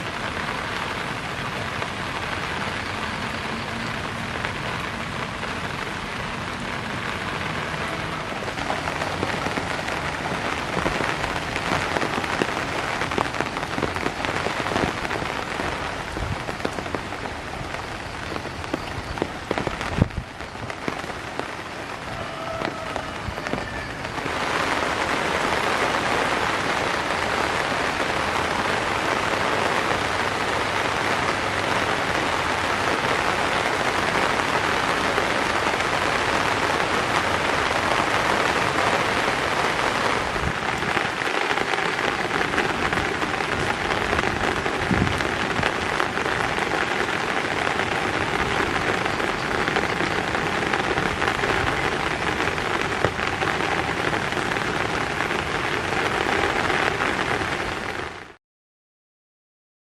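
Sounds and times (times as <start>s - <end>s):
steady rain hiss: 0.0s - 58.4s.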